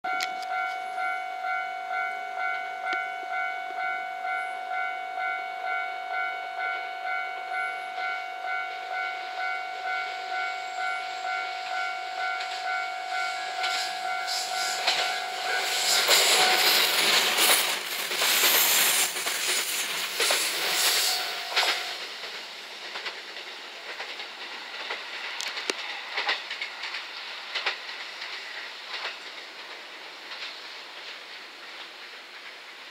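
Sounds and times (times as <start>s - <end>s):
electric train running past: 0.1s - 32.9s.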